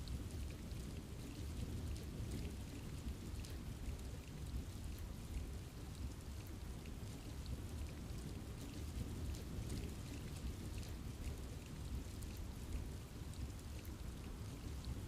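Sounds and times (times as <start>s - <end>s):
low continuous rumble: 0.0s - 15.0s
raindrops pattering on leaves: 0.0s - 15.0s.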